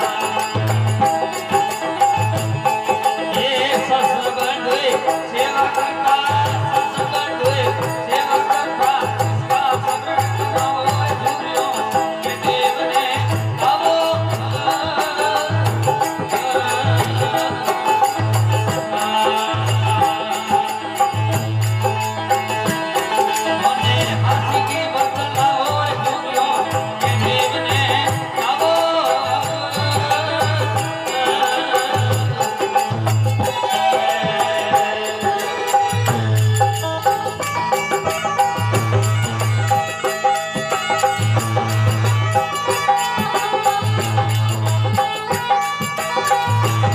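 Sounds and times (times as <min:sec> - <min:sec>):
light rattling percussion: 0:00.0 - 0:46.9.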